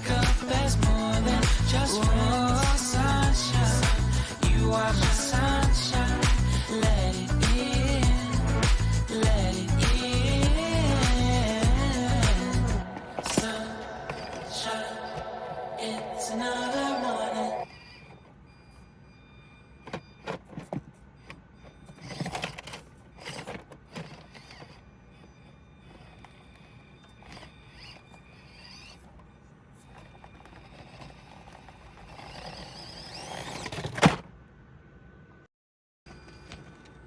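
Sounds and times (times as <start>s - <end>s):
toy car motor whining: 0.0s - 34.2s, 36.1s - 37.0s.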